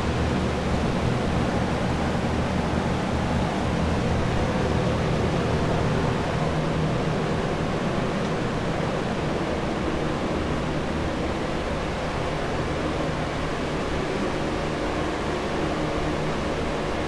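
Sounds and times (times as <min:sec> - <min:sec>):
rush of air from fans: 0:00.0 - 0:17.0.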